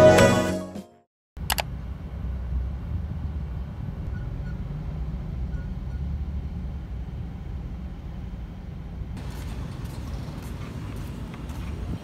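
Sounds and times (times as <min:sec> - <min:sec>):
car engine rumble: 0:01.4 - 0:12.0
road noise: 0:01.4 - 0:12.0.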